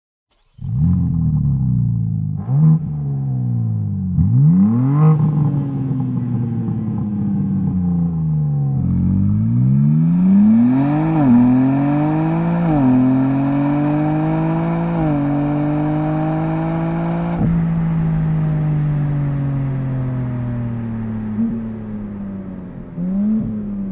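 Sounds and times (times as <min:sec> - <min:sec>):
car engine accelerating through gears: 0:00.3 - 0:23.9.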